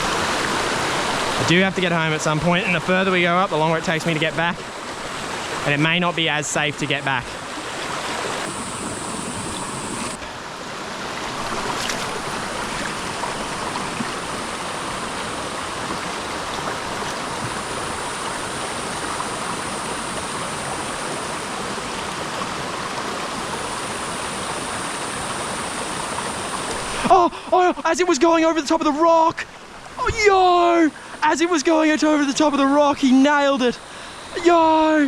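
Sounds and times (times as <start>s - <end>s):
water rushing over rocks: 0.0s - 35.0s.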